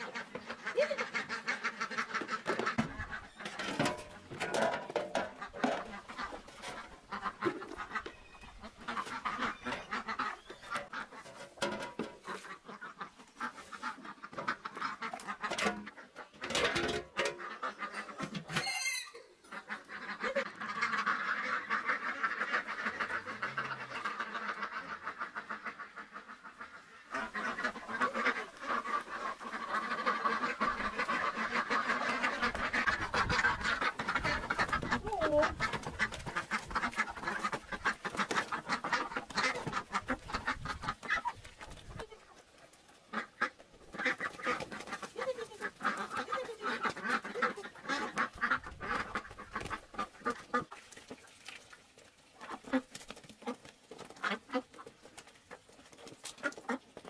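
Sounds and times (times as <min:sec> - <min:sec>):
fowl chattering: 0:00.0 - 0:03.8, 0:05.3 - 0:11.4, 0:12.1 - 0:42.4, 0:43.1 - 0:50.8.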